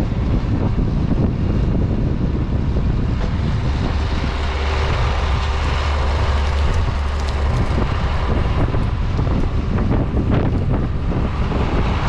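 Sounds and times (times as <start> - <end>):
tractor engine droning: 0.0 - 12.0
wind buffeting microphone: 0.0 - 12.0.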